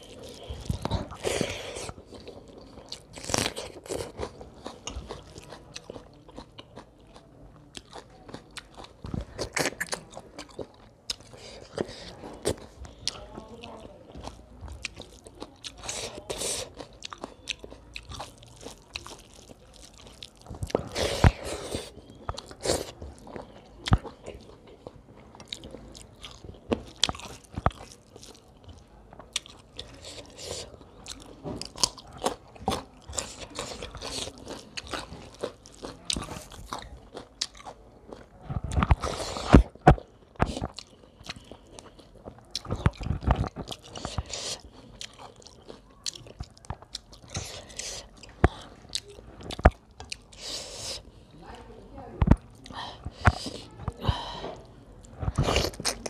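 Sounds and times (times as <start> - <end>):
chewing food: 0.0 - 51.4, 52.2 - 56.0.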